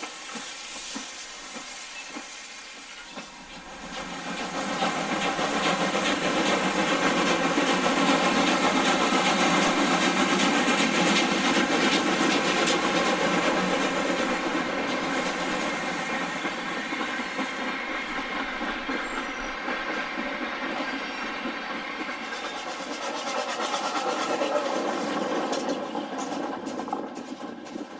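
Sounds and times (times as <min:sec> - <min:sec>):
train clattering on rails: 0:00.0 - 0:27.9.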